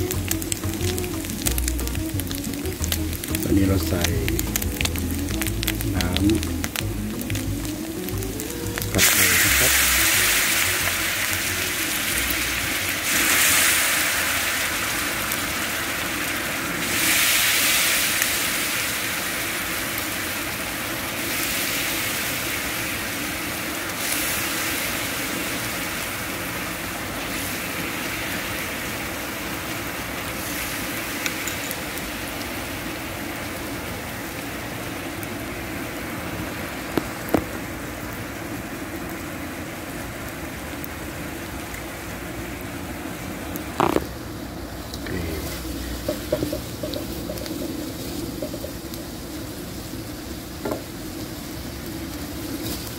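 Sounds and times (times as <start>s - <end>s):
water sizzling in a hot wok: 0.0s - 52.9s.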